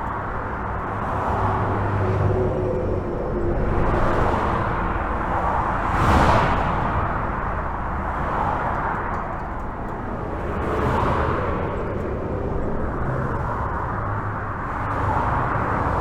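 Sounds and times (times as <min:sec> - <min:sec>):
vehicle passing close: 0:00.0 - 0:16.0.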